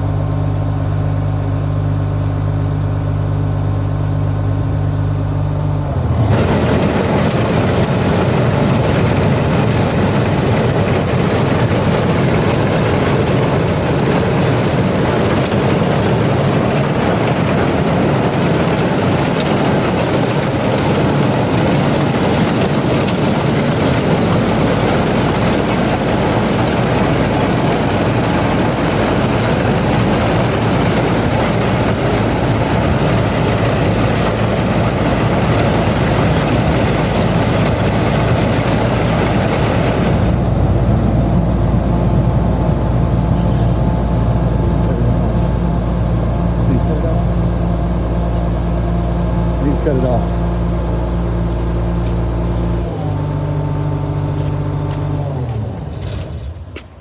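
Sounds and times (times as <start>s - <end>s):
faint high whine: 0.0s - 56.9s
combine harvester machinery: 0.0s - 57.0s.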